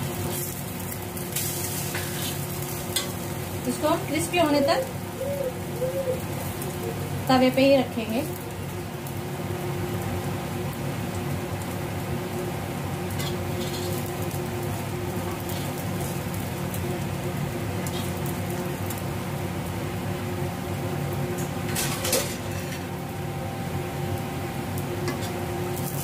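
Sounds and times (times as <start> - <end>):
bread sizzling in hot oil: 0.0 - 26.0.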